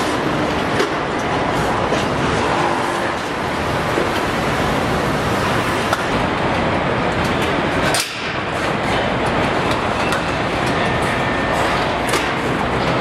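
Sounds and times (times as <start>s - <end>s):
assembly line machinery din: 0.0s - 13.0s.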